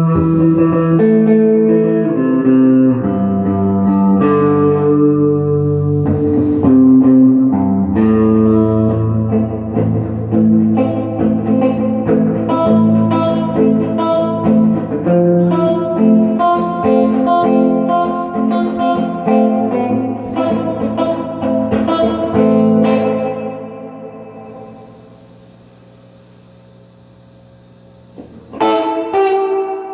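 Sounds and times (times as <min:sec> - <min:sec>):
electric guitar notes and chords: 0:00.0 - 0:25.2, 0:28.0 - 0:29.9
low amp hum: 0:00.0 - 0:29.9.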